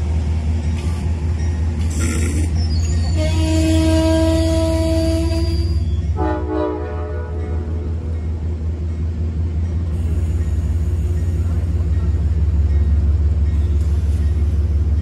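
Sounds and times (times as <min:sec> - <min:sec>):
idling train hum and rumble: 0:00.0 - 0:15.0.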